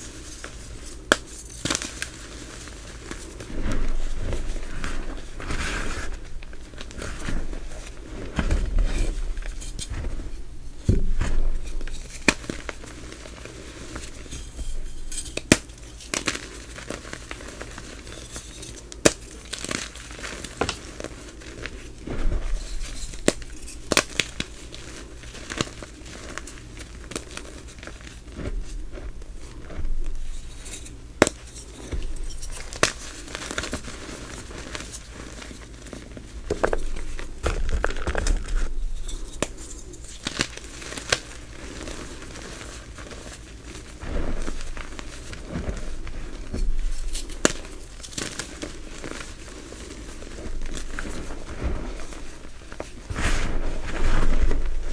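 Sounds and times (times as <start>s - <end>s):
hands crunching chalk: 0.0s - 54.9s.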